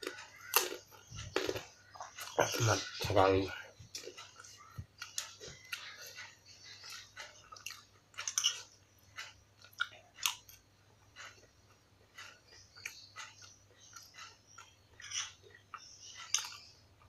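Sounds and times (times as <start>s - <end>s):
person chewing crunchy crackers: 0.0s - 2.7s, 3.8s - 17.0s.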